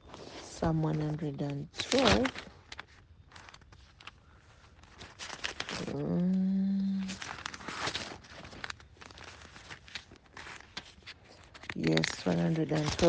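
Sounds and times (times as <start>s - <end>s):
pages rustling: 0.0s - 13.0s.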